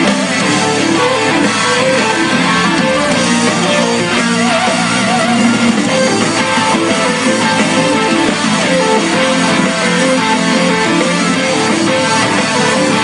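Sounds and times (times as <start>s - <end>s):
guitar-led background music: 0.0s - 13.0s.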